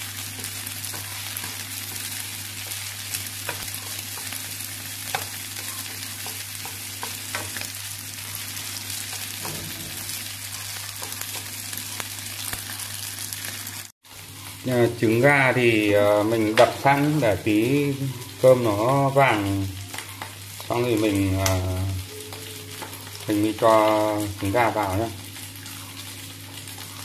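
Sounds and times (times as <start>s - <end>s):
rice sizzling in a frying pan: 0.0s - 27.0s.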